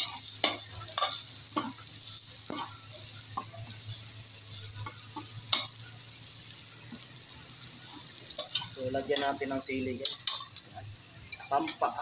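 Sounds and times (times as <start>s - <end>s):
onions sizzling in hot oil: 0.0s - 12.0s
spatula scraping and knocking wok: 0.0s - 12.0s.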